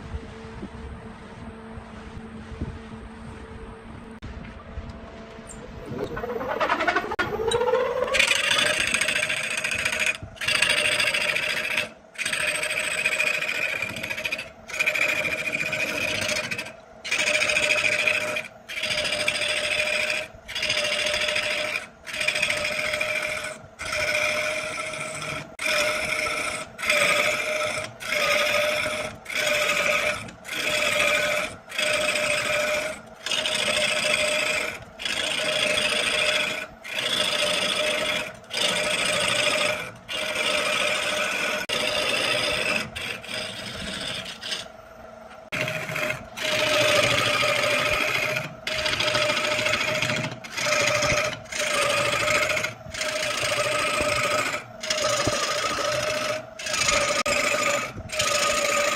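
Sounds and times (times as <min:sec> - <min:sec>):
power tool cutting wood: 0:05.9 - 0:44.7, 0:45.5 - 0:58.9.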